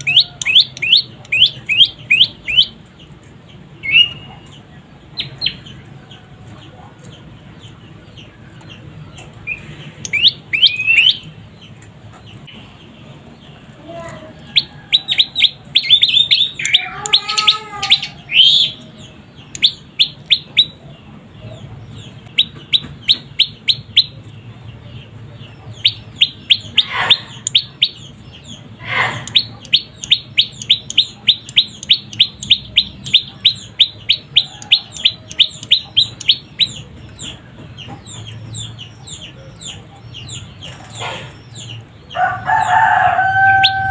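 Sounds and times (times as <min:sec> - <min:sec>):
drawn-out bird call: 0:00.0 - 0:43.9
songbird chirping: 0:00.0 - 0:43.9.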